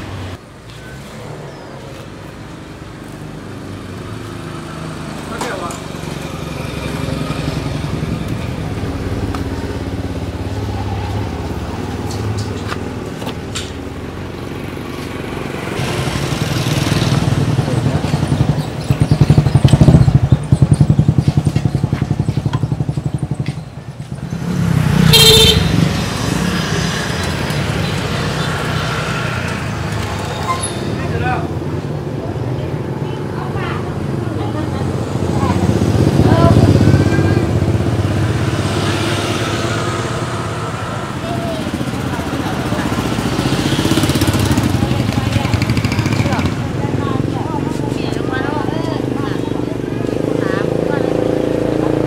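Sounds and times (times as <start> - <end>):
motorbikes passing by: 0.0 - 52.0.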